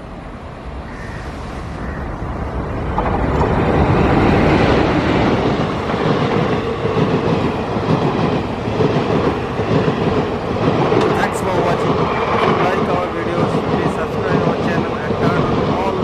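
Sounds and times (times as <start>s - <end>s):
train wheels on track: 1.2s - 16.0s.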